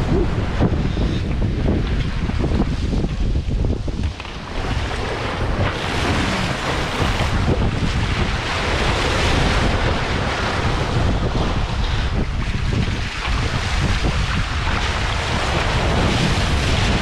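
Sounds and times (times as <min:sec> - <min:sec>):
water rushing past hulls: 0:00.0 - 0:17.0
wind buffeting microphone: 0:00.0 - 0:17.0.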